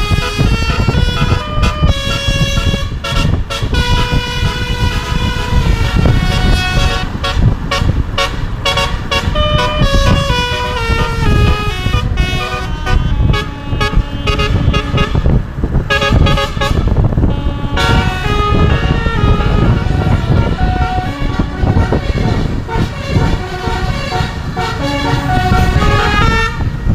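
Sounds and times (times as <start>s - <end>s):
air horn playing melody: 0.0s - 26.9s
low rumble: 0.0s - 26.9s.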